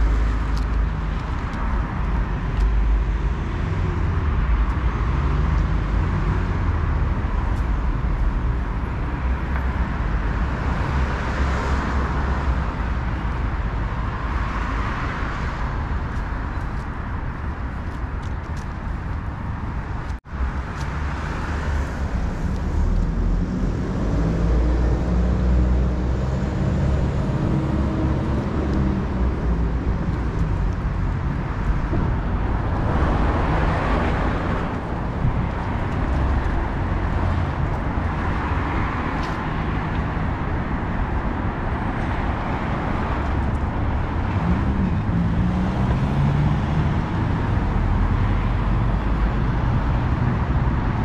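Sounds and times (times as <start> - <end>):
cars driving past: 0.0 - 51.0.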